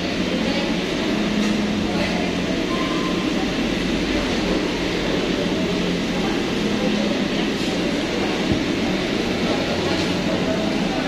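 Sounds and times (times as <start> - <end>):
restaurant rumble and hum: 0.0 - 11.0.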